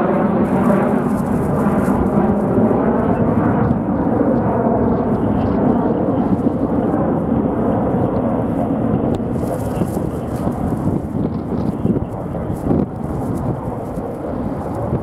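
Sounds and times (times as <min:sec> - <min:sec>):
jet engines running: 0:00.0 - 0:15.0
wind rumbling on microphone: 0:00.0 - 0:15.0.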